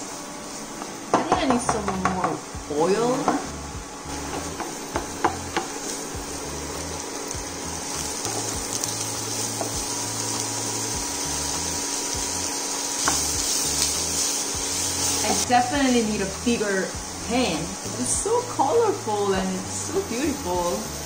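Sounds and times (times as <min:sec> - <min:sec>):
vegetables sizzling in oil: 0:00.0 - 0:21.0
background music with bass: 0:01.4 - 0:21.0.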